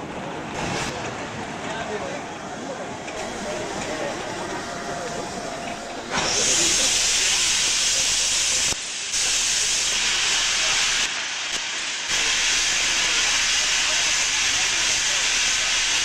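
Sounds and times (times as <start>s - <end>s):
steam locomotive venting steam: 2.6s - 16.0s.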